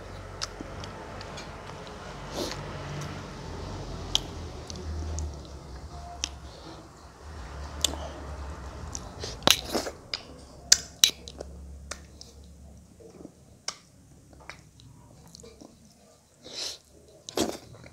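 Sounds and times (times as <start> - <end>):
chewing: 0.3 - 3.2, 4.0 - 7.0, 8.9 - 17.9.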